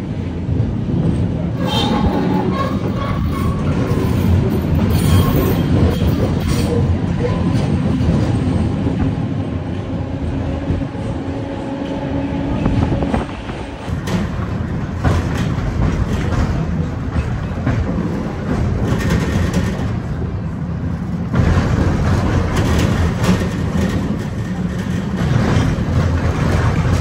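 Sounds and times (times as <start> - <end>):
steel wheels rumbling on rails: 0.0 - 27.0
tram clicks: 0.0 - 27.0.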